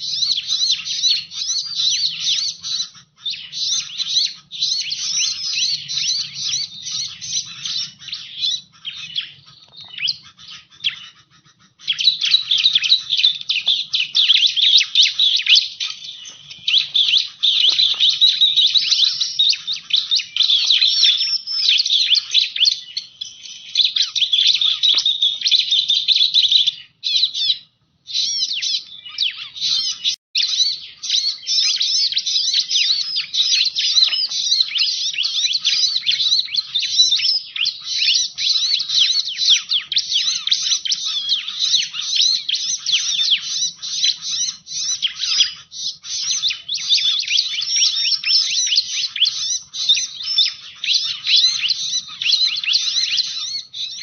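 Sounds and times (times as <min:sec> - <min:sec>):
bird chirps and trills: 0:00.0 - 0:54.0.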